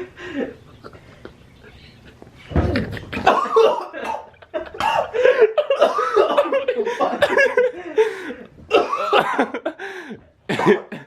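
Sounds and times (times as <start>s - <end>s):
young men laughing: 0.0s - 11.0s.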